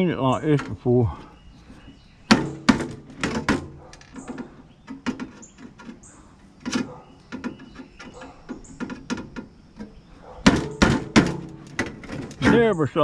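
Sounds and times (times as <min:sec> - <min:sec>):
high squeaks: 0:00.4 - 0:12.8
sheet metal clinking and clattering: 0:02.3 - 0:12.8.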